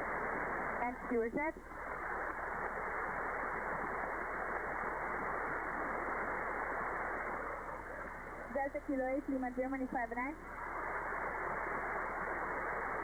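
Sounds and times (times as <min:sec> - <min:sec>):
faint low hum: 0:00.0 - 0:13.0
radio static hiss: 0:00.0 - 0:13.0.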